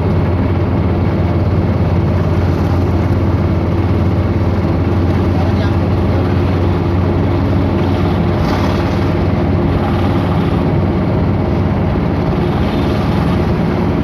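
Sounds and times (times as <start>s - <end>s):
road noise: 0.0s - 14.0s
vehicle engine drone: 0.0s - 14.0s.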